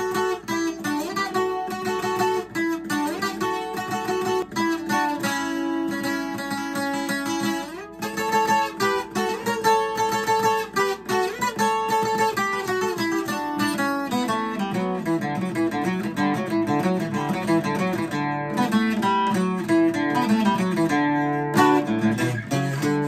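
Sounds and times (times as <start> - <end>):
twelve-string acoustic guitar picking: 0.0 - 23.0.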